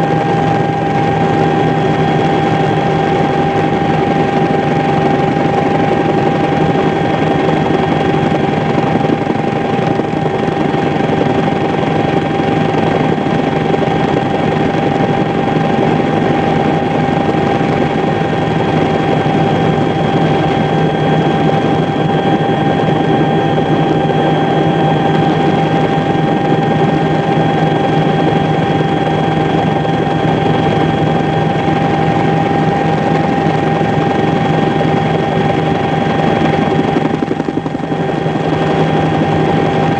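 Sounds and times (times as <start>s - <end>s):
constant whine: 0.0s - 39.9s
engine drone: 0.0s - 39.9s.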